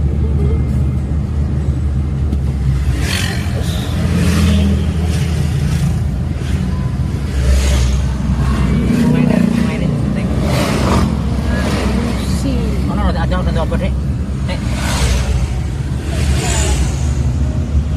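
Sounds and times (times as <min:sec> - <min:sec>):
car engine and road drone: 0:00.0 - 0:17.9.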